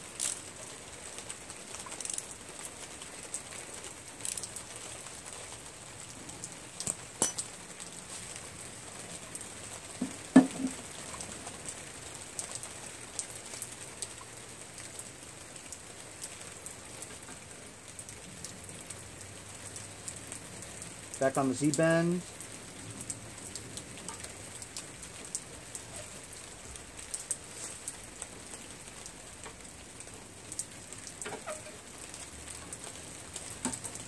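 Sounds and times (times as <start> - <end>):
rain pattering: 0.0 - 34.0.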